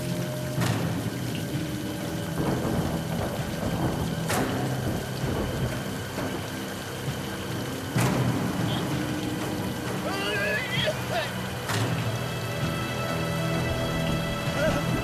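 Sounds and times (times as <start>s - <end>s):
heavy rain pouring: 0.0s - 15.0s
thunder cracks: 0.6s - 12.1s, 13.6s - 15.0s.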